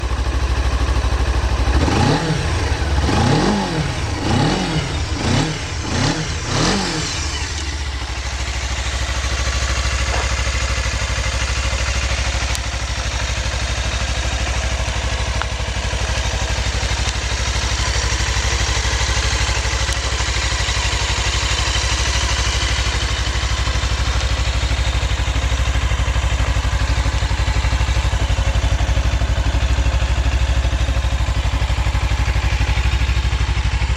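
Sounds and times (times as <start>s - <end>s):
motorcycle engine revving and idling: 0.0s - 33.9s.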